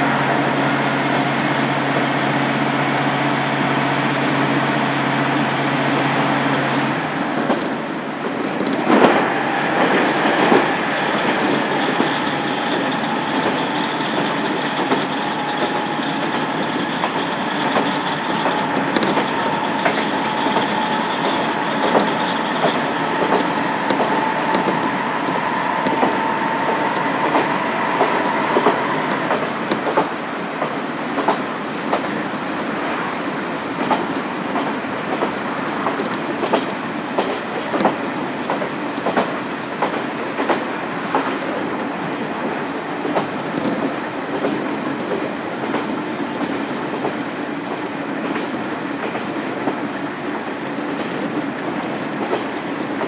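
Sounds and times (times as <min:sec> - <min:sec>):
train wheels clicking over rail joints: 0:07.2 - 0:32.2, 0:33.8 - 0:53.0.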